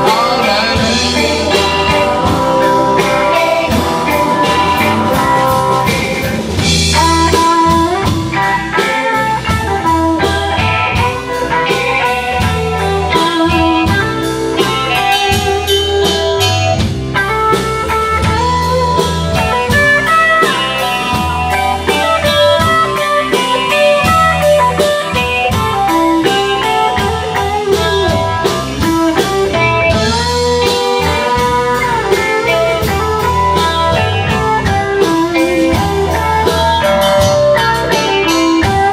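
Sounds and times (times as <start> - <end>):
drum kit: 0.0 - 38.9
electric bass: 0.0 - 38.9
electric guitars: 0.0 - 38.9.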